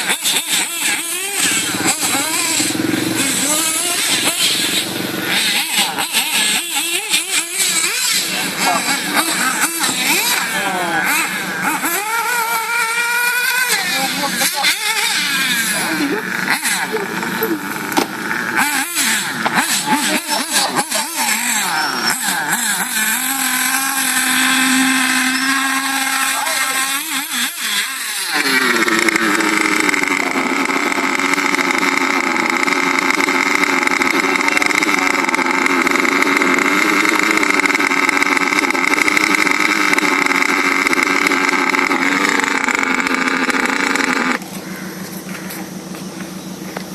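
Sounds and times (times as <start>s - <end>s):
electric rc car motor whining: 0.0s - 45.8s.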